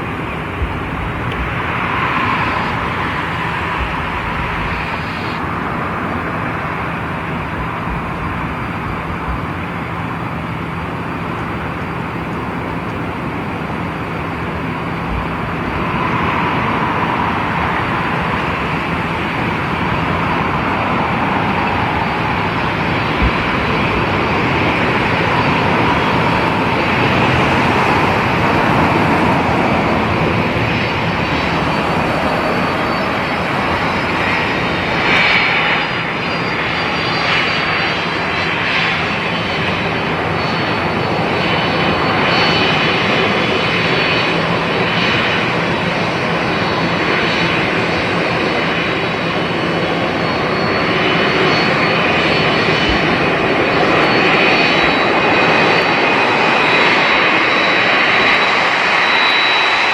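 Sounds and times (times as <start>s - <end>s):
jet airliner engines: 0.0s - 59.9s.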